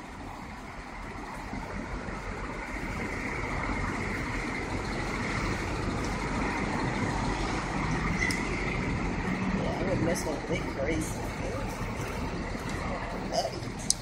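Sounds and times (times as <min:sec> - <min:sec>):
vehicle engine and tyre noise: 0:00.0 - 0:14.0.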